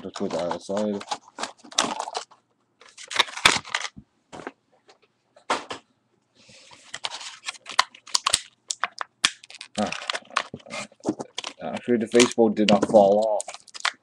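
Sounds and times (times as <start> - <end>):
packaging rustling: 0.0 - 4.5, 6.6 - 14.0.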